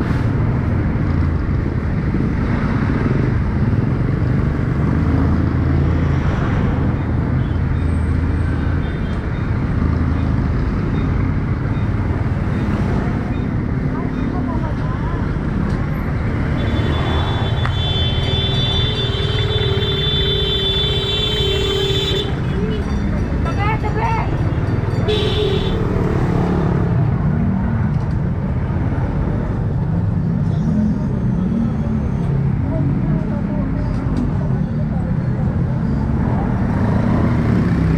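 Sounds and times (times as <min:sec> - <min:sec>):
wind and road noise: 0:00.0 - 0:37.9.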